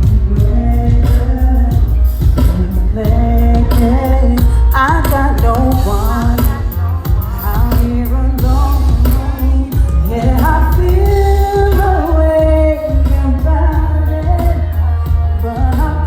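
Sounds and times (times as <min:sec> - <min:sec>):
band with heavy pulsing bass: 0:00.0 - 0:16.0
person singing: 0:00.0 - 0:16.0.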